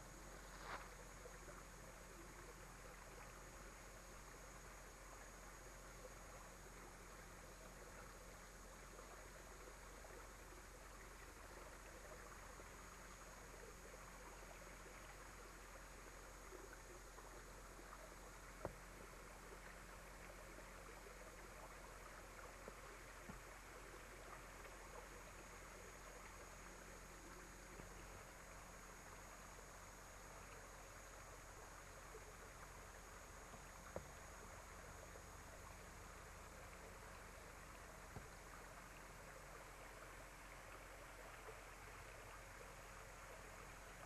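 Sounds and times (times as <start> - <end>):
camcorder hiss and hum: 0.0 - 44.0.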